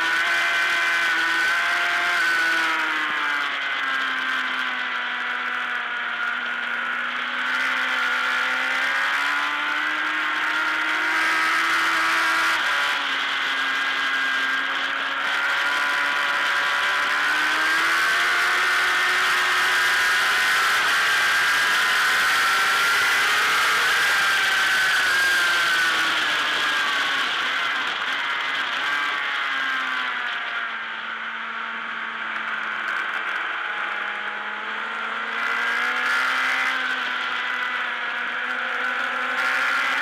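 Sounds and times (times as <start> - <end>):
racing motorcycle engine: 0.0 - 40.0.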